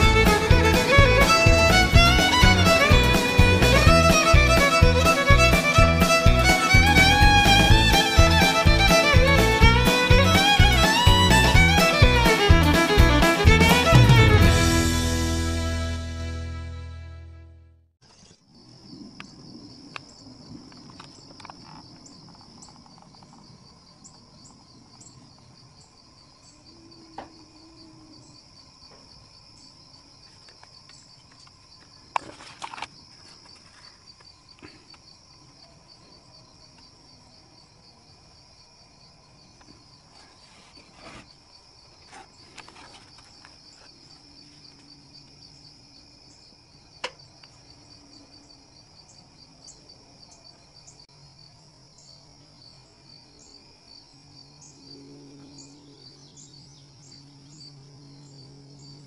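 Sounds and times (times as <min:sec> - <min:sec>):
crickets chirping: 0:00.0 - 0:14.4, 0:18.0 - 0:59.0.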